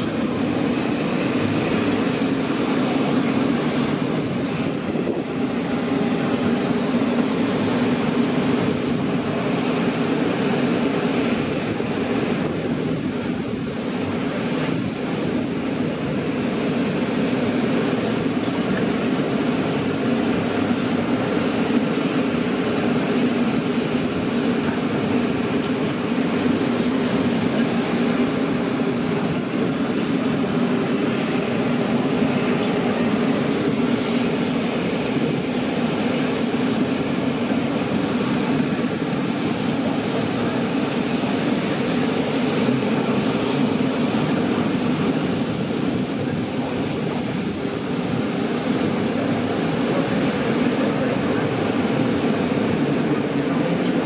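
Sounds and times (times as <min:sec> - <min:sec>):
aircraft engine drone: 0:00.0 - 0:54.0
thin high whine: 0:00.0 - 0:54.0.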